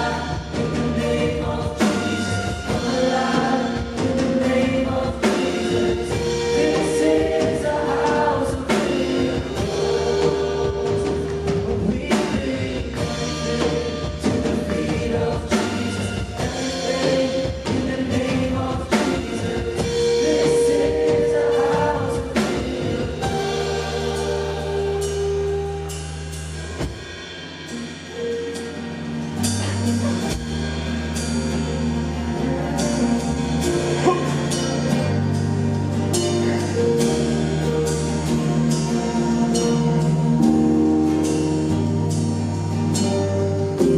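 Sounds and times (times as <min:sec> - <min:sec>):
people singing: 0:00.0 - 0:26.3, 0:29.4 - 0:41.8
bass guitar: 0:00.0 - 0:43.9
drum kit: 0:00.0 - 0:43.9
keyboard: 0:00.0 - 0:43.9.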